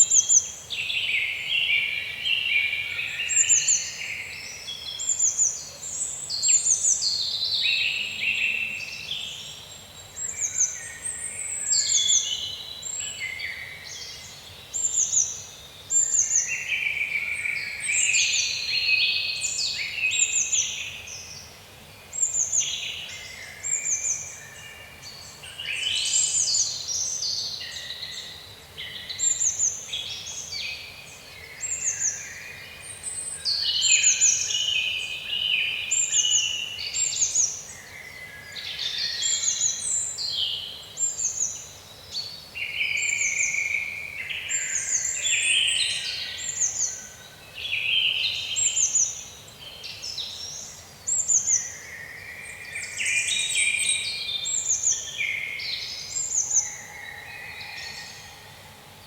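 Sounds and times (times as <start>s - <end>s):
faint steady hiss: 0.0s - 59.0s
songbirds singing: 0.0s - 59.0s.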